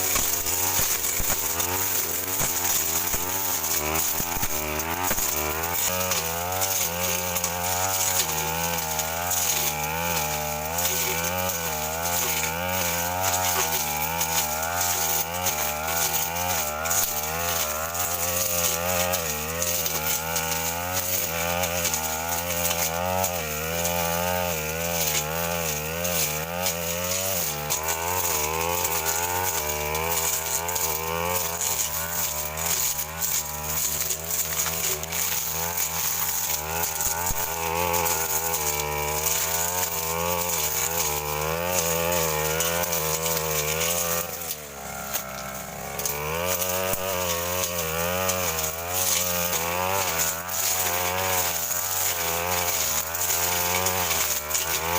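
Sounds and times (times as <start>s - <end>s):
brushcutter engine at high revs: 0.0s - 54.9s.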